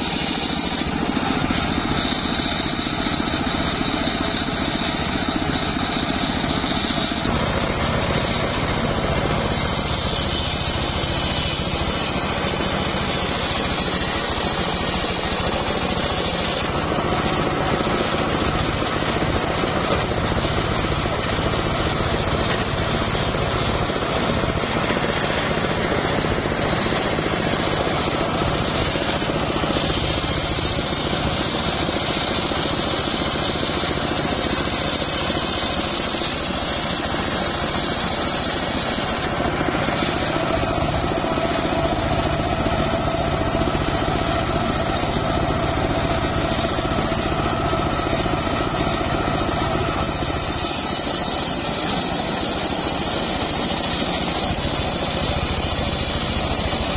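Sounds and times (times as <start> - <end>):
circular saw ripping log: 0.0 - 2.9, 5.6 - 42.0, 46.0 - 56.9
saw drive droning: 0.0 - 56.9
steady whine: 0.0 - 56.9.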